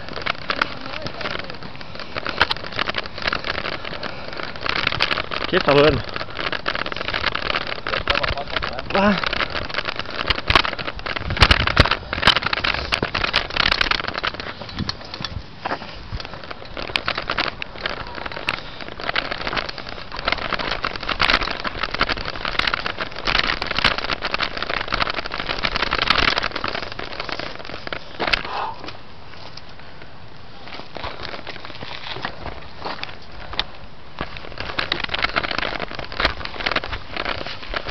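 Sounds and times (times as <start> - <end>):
bicycle rattling: 0.0 - 37.9
tyres crackling over gravel: 0.0 - 37.9.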